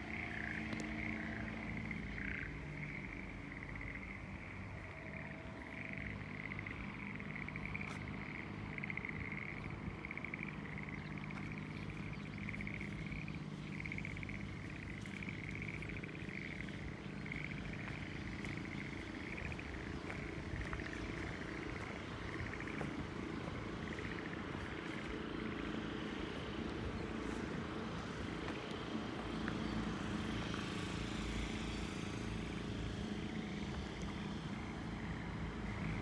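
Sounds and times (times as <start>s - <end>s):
frogs trilling: 0.0s - 36.0s.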